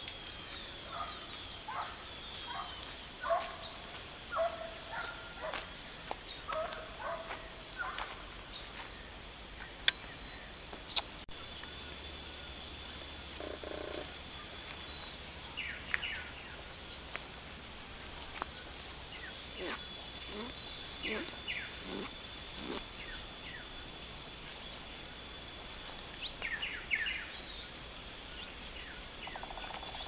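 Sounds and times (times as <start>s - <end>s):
birds chirping: 0.0s - 30.0s
high insect drone: 0.0s - 30.0s.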